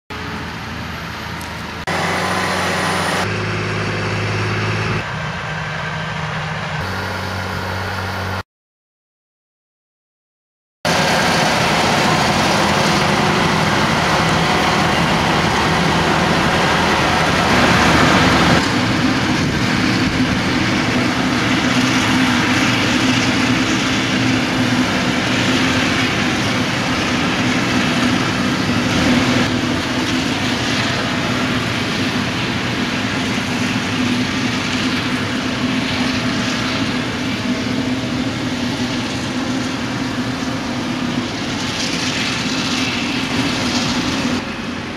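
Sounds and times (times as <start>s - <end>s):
forage harvester droning: 0.1s - 8.4s, 10.9s - 44.9s.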